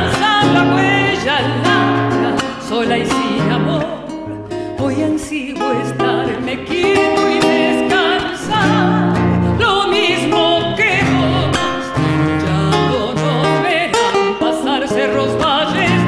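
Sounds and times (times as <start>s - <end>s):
acoustic guitar: 0.0s - 16.0s
woman singing folk song: 0.0s - 16.0s.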